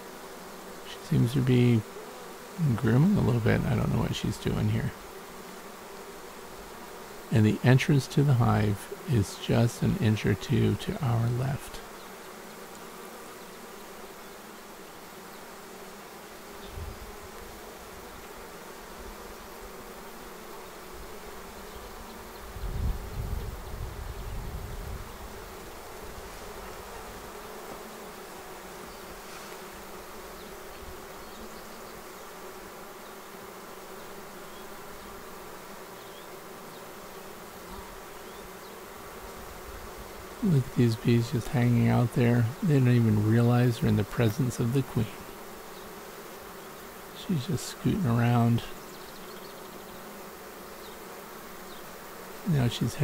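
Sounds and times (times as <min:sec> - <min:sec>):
bees humming: 0:00.0 - 0:53.0.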